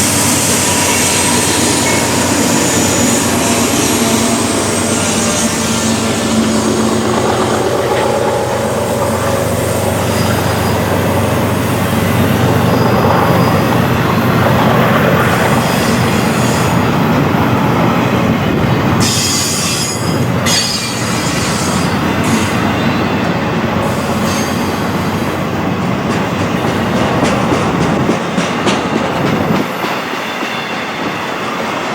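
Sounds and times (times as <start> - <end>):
freight train rumbling: 0.0 - 31.9.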